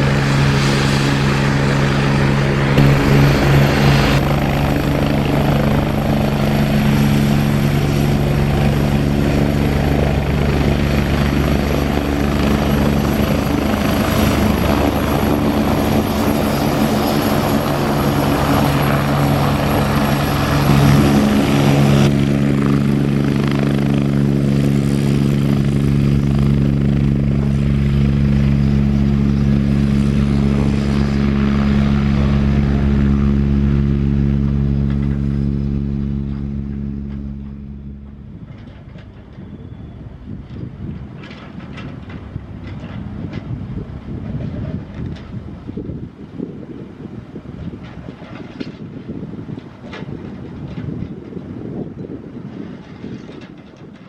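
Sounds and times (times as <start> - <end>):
helicopter rotor drone: 0.0 - 54.0.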